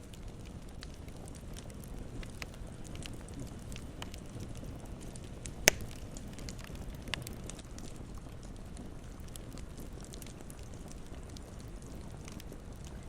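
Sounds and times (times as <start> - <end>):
burning wood popping: 0.0 - 13.0
campfire crackling: 0.0 - 13.0.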